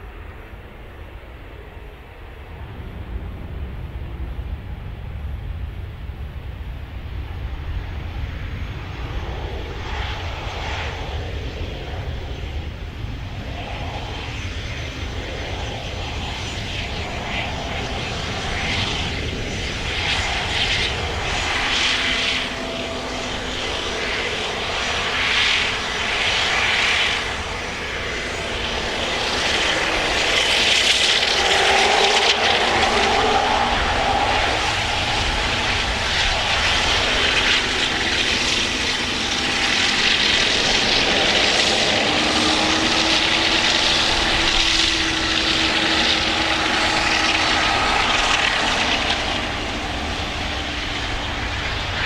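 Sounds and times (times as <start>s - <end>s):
small aircraft engine taxiing: 0.0s - 52.0s.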